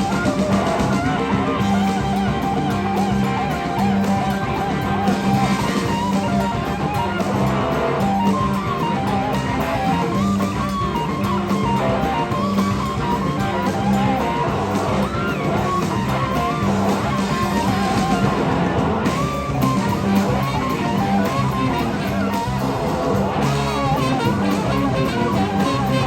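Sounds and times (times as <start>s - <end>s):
bass line: 0.0s - 26.0s
electric slide guitar solo: 0.0s - 26.0s
rock blues band: 0.0s - 26.0s.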